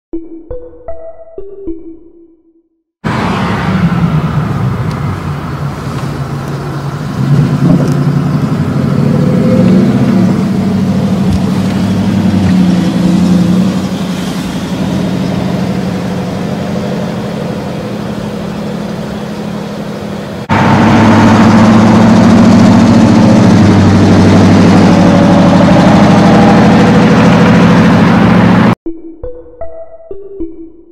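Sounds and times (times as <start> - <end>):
truck engine accelerating: 3.0 - 28.8.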